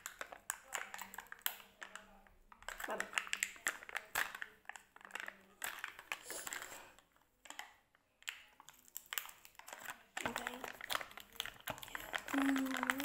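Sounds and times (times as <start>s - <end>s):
snack packaging crinkling: 0.0s - 13.0s.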